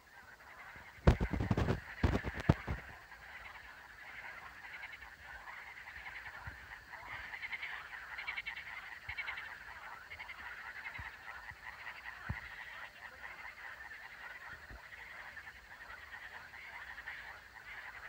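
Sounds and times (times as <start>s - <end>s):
chorus of frogs trilling: 0.0s - 18.0s.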